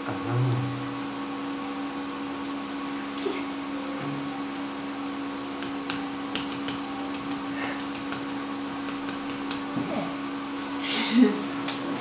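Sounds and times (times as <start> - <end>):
appliance hum: 0.0 - 12.0.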